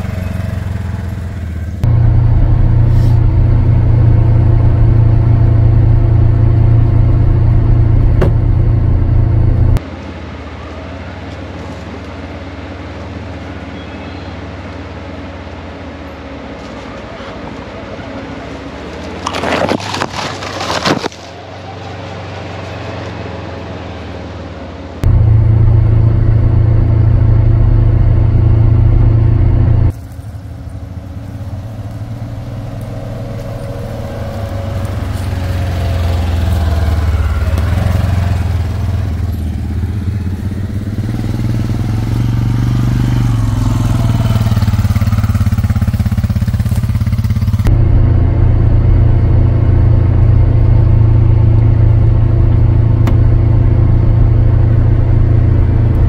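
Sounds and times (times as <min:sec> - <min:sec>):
off-road vehicle engine running: 0:00.0 - 0:23.4, 0:25.0 - 0:56.0.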